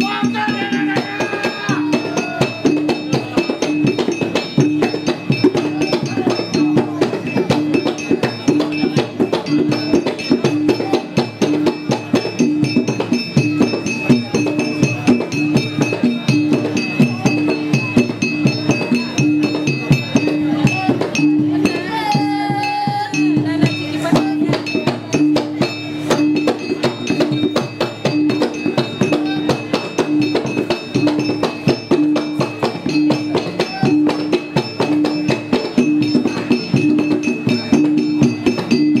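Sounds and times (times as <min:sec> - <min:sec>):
percussion music with fast drums: 0:00.0 - 0:39.0.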